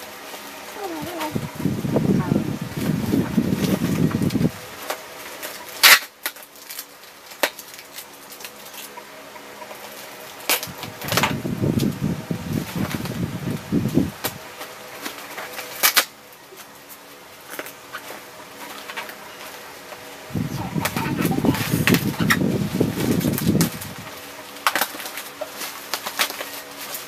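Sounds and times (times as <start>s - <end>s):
bubble wrap rustling and crinkling: 0.0s - 27.0s
bubble wrap crackles: 0.2s - 9.0s, 9.8s - 19.9s, 20.7s - 27.0s.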